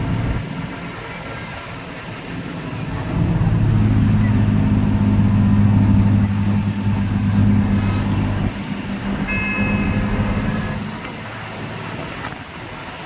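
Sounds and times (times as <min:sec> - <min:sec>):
road noise rushing: 0:00.0 - 0:13.0
vehicle engine hum: 0:00.0 - 0:13.0.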